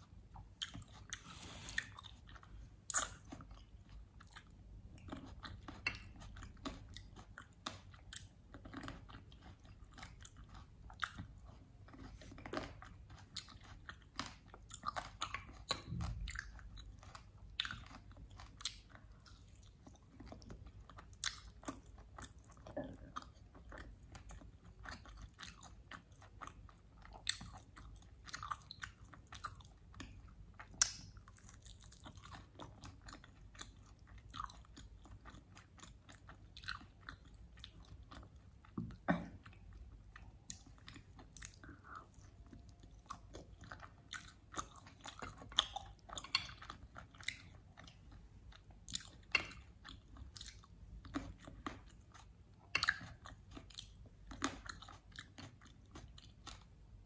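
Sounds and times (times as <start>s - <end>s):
mouth clicks while chewing meat: 0.4s - 56.8s.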